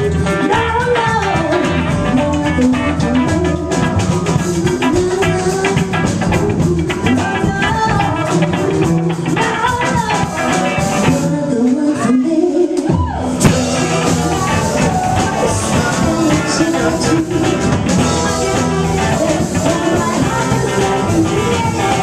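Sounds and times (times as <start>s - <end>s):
drums and cymbals: 0.0s - 12.1s, 12.9s - 22.0s
amplified electric guitars: 0.0s - 22.0s.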